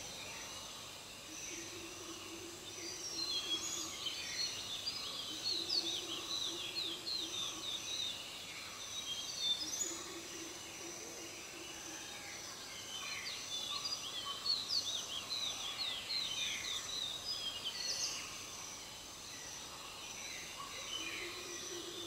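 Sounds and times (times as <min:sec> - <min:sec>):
forest birds chirping: 0:00.0 - 0:22.0.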